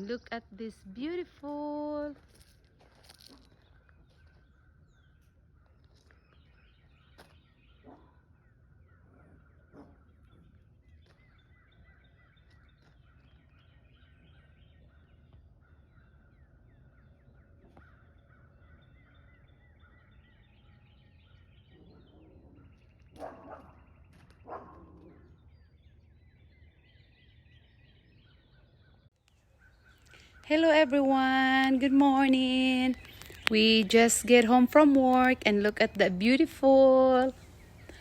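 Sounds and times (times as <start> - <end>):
small birds chirping: 0.0 - 38.0
harsh bird calls: 6.0 - 38.0.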